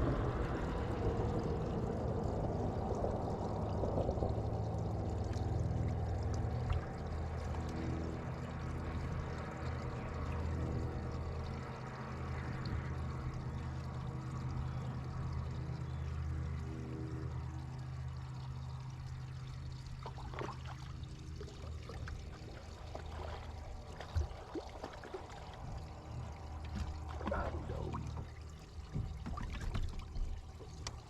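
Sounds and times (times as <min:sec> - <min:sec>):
boat motor running: 0:00.0 - 0:31.0
water splashing along hull: 0:00.0 - 0:31.0.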